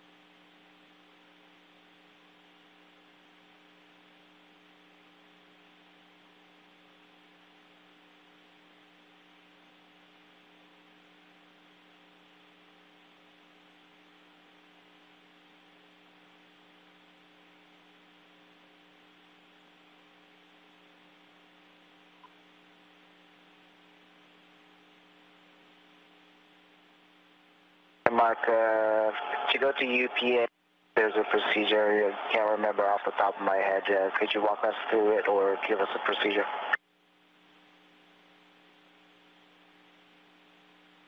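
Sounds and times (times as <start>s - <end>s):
faint hum with hiss: 0.0s - 41.0s.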